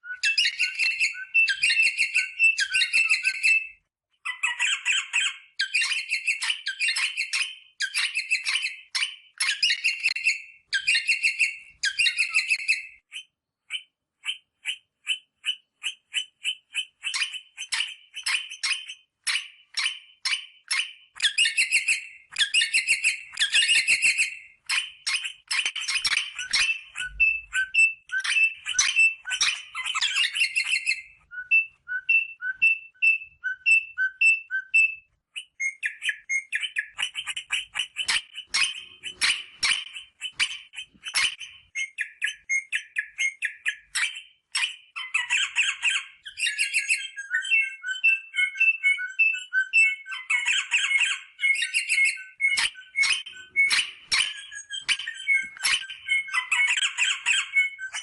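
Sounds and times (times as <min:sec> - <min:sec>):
parrot calling: 0:00.2 - 0:58.0.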